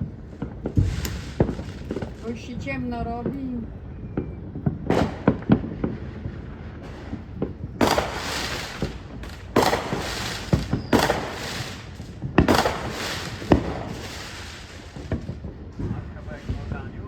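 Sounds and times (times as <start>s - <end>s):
fireworks crackling hiss: 0.0s - 3.6s, 4.9s - 17.0s
fireworks bangs: 0.0s - 17.0s.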